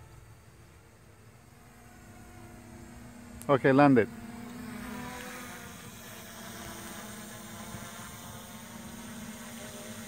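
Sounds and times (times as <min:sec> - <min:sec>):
drone propellers buzzing: 0:00.0 - 0:10.0
fixed hum: 0:00.0 - 0:10.0.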